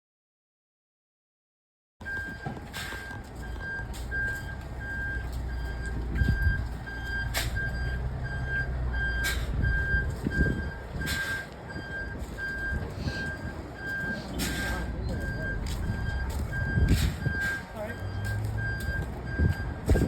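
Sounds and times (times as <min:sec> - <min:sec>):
diesel engine running: 0:02.0 - 0:20.0
truck reversing alarm beeping: 0:02.0 - 0:20.0.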